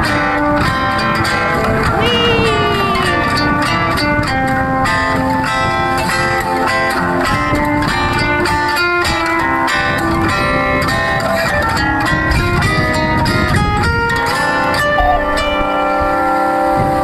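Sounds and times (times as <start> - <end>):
plucked guitar playing: 0.0 - 16.8.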